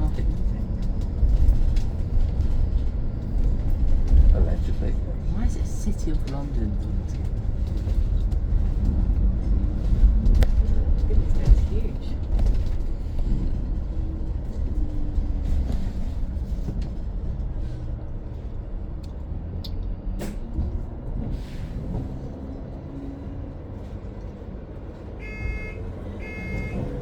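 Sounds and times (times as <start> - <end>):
bus road and tyre rumble: 0.0 - 27.0.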